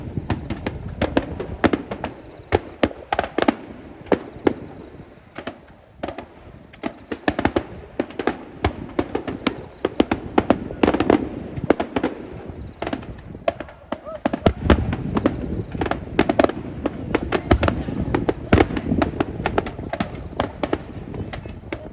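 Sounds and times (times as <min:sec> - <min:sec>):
firework bangs: 0:00.0 - 0:21.9.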